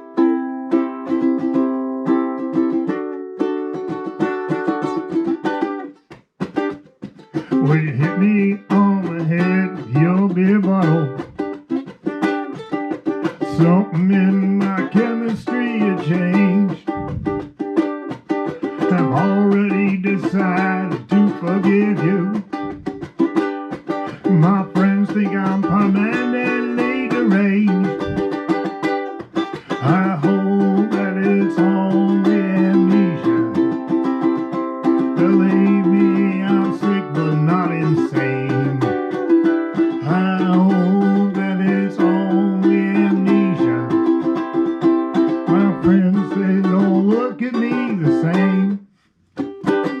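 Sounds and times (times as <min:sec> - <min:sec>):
ukulele strumming chords: 0:00.0 - 0:50.0.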